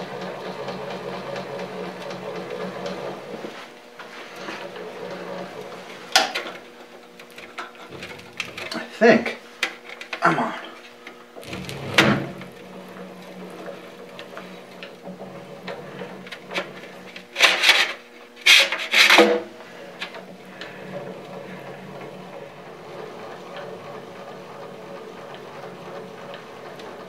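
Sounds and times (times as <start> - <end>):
metal scraping clatters: 0.7 - 9.0, 11.4 - 27.0.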